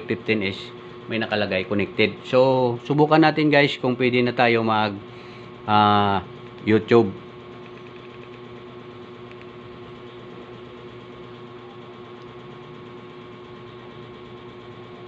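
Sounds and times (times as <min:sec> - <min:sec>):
steady hum with held tone: 0:00.0 - 0:15.0.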